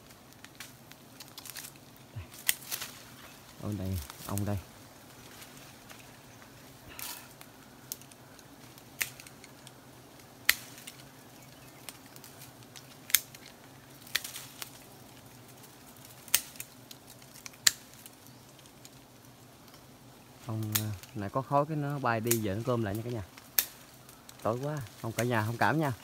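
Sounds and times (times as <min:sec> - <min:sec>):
twigs snapping and cracking: 0:00.0 - 0:26.0.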